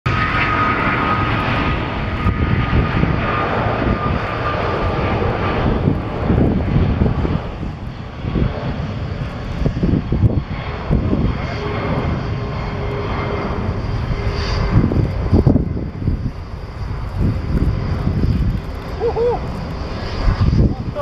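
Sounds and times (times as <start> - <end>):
jet engines rumbling: 0.1 - 21.0
steady engine whine: 0.1 - 21.0.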